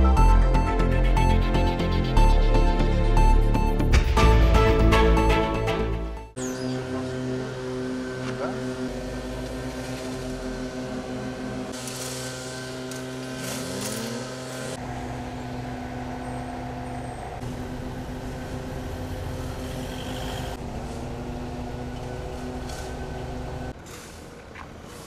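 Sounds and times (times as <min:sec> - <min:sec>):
heavy vehicle engine running: 0:04.2 - 0:25.0.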